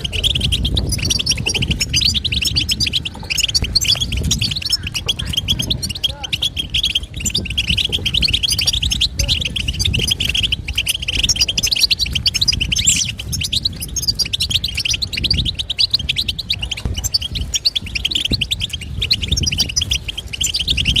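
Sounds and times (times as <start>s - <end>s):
goldfinch twittering: 0.0s - 21.0s
steady low rumble: 0.0s - 21.0s.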